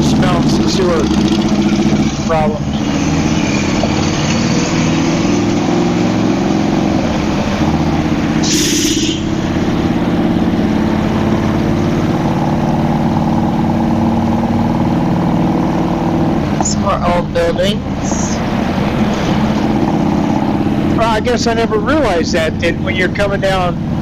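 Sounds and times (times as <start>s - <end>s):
motorcycle engine running: 0.0s - 4.5s, 5.4s - 24.0s.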